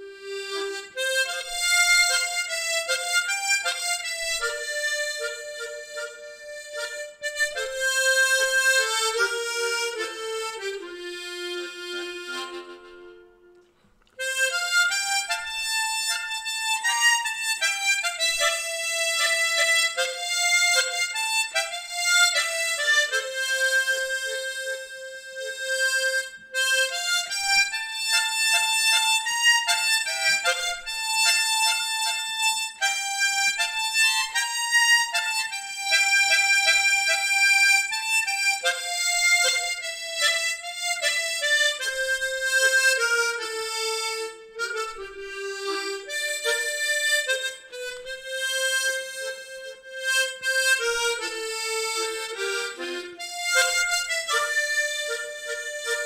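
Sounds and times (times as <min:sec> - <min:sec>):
solo harmonica melody: 0:00.0 - 0:56.0.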